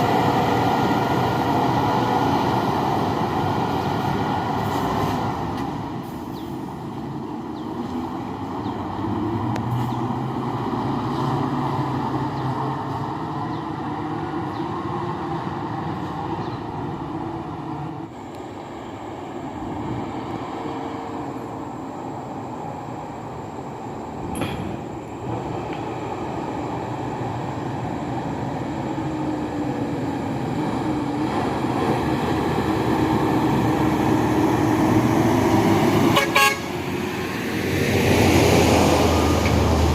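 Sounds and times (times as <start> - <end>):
truck diesel engine labouring: 0.0 - 39.9.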